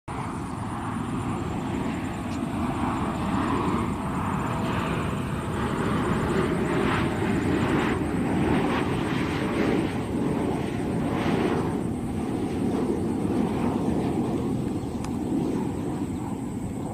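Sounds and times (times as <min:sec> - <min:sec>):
jet engines rumbling: 0:00.1 - 0:16.9.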